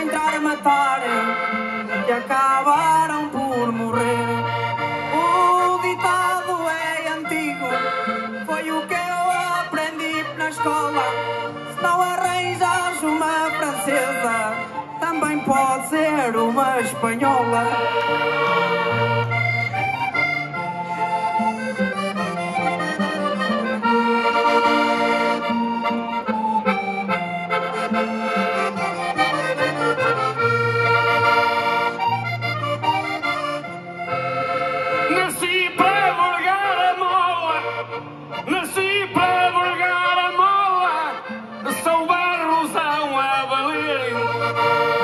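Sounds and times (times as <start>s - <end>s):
accordions playing: 0.0s - 45.0s
guitar accompaniment: 0.0s - 45.0s.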